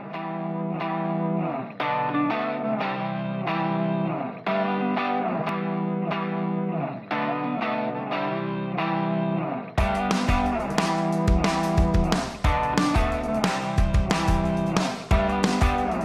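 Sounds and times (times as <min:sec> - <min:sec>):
guitar playing picked notes: 0:00.0 - 0:16.0.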